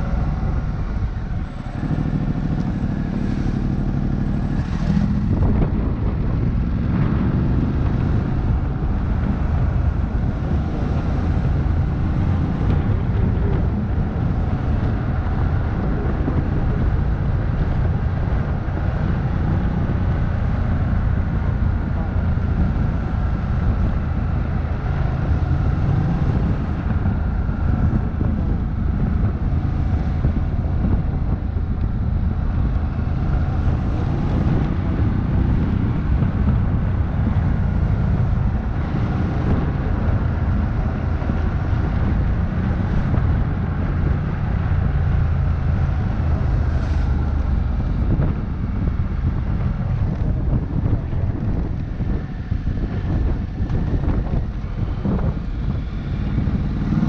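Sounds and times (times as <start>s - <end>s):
motorcycle engine cruising: 0.0s - 57.0s
wind noise on microphone: 0.0s - 57.0s.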